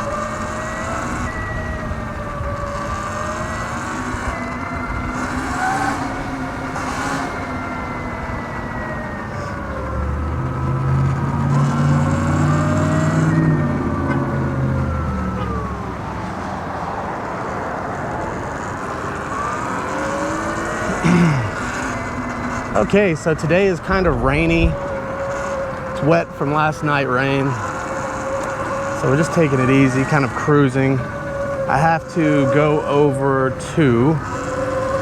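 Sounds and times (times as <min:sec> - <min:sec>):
electric motor whine: 0:00.0 - 0:35.0.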